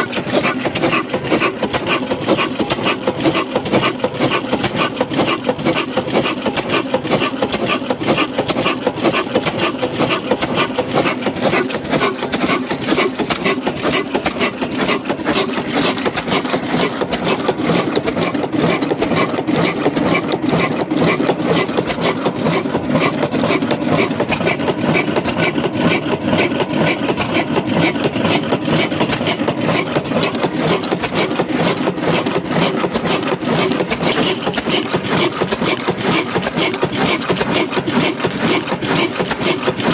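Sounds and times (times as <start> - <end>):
diesel engine clattering: 0.0 - 39.9.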